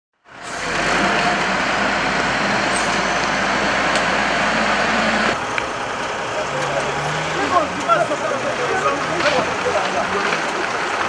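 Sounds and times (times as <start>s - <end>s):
vehicle engine running: 0.2s - 11.0s.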